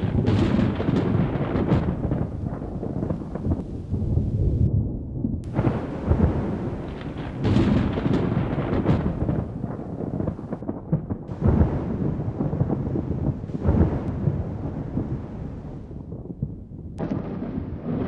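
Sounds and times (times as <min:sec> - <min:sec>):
thunder rumbling: 0:00.0 - 0:18.0.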